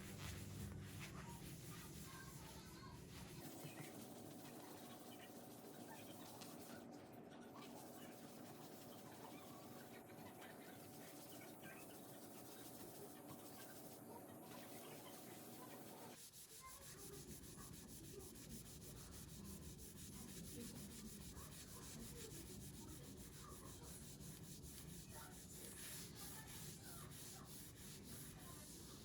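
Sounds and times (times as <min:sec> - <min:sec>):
quick rhythmic rubbing strokes: 0:00.0 - 0:06.8, 0:07.6 - 0:29.0.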